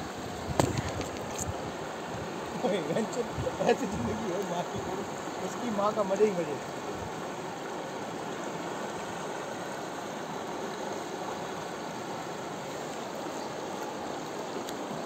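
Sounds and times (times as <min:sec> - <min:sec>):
river rushing over rapids: 0:00.0 - 0:15.0.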